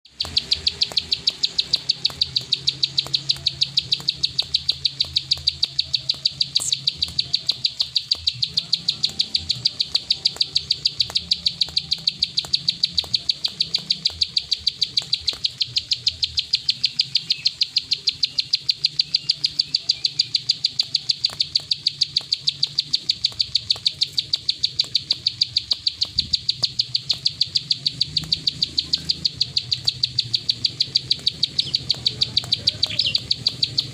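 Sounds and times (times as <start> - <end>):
bird ticking call: 0.0 - 33.9.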